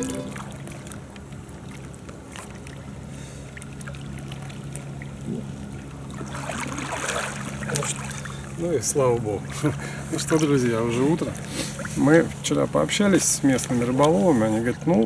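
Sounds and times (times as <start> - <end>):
boat engine hum: 0.0 - 15.0.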